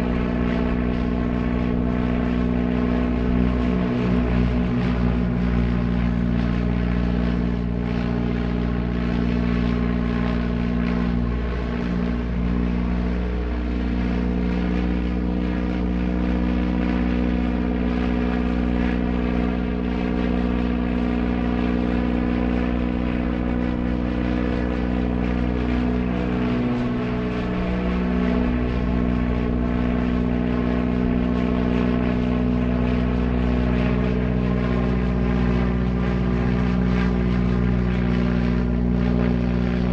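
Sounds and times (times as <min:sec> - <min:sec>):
propeller airplane engine running: 0:00.0 - 0:39.9.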